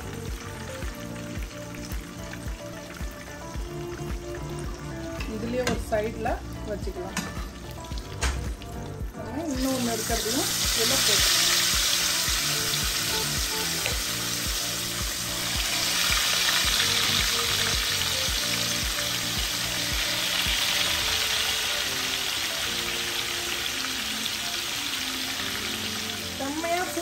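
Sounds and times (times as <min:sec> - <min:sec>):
chicken sizzling in oil: 0:00.0 - 0:27.0
faint background music with beat: 0:00.0 - 0:27.0.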